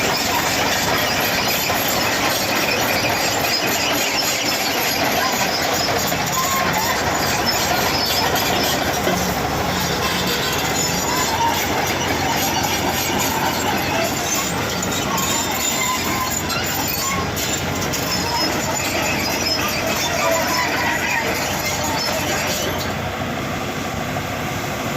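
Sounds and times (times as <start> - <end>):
short squeals: 0.0 - 23.0
excavator tracks clattering: 0.0 - 23.2.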